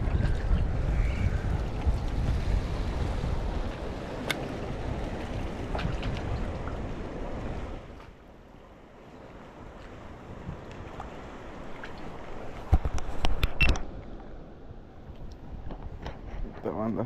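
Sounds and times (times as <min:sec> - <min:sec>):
wind buffeting microphone: 0:00.0 - 0:08.1, 0:09.2 - 0:17.0
waves washing on shore: 0:00.0 - 0:16.4.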